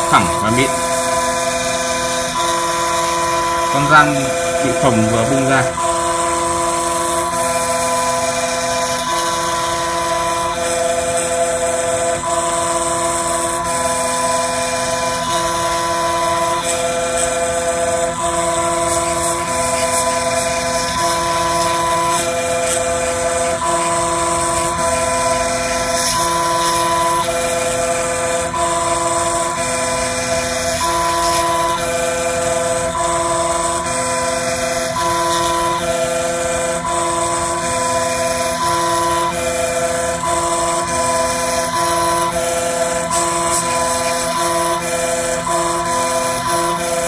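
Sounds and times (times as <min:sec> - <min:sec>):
stepper motors whining: 0:00.0 - 0:47.0.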